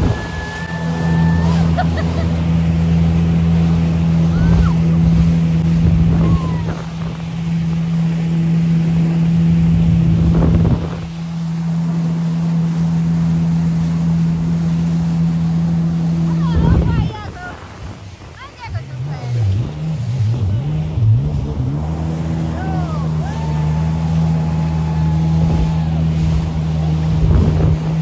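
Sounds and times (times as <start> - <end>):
jet ski engine running: 0.0 - 28.0
water splashing: 0.0 - 28.0
wind: 0.0 - 28.0.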